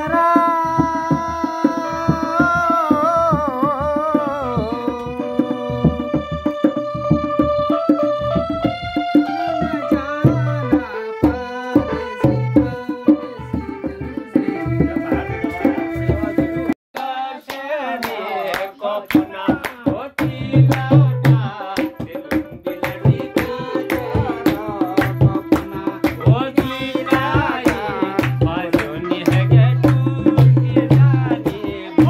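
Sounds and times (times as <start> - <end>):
man singing: 0.0 - 8.4, 9.4 - 32.0
electronic keyboard backing: 0.0 - 16.8, 19.2 - 32.0.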